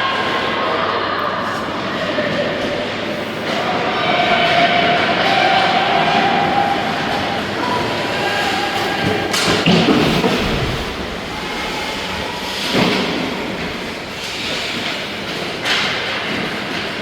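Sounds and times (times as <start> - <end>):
sports arena game noise: 0.0 - 17.0.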